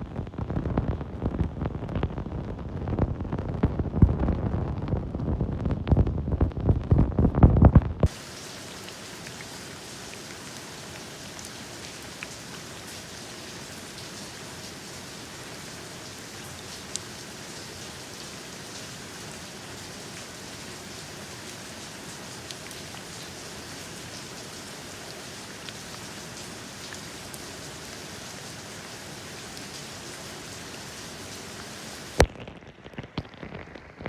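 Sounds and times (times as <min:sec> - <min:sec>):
rain falling: 0:00.1 - 0:34.0.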